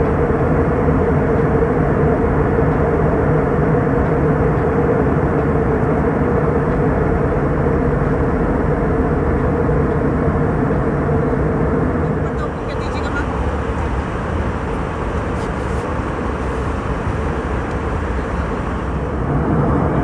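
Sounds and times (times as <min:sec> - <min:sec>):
constant mid-pitched hum: 0:00.0 - 0:20.0
jet engine and airflow drone: 0:00.0 - 0:20.0.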